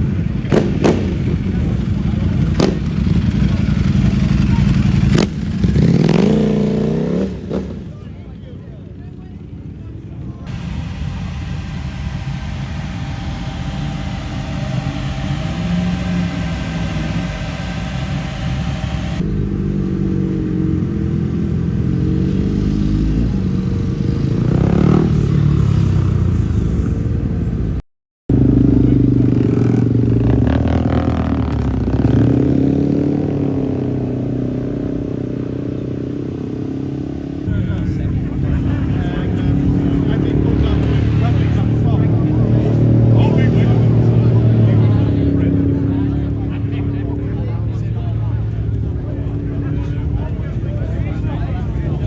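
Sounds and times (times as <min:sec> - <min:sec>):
vehicle engines revving: 0:00.0 - 0:08.2, 0:09.6 - 0:52.0.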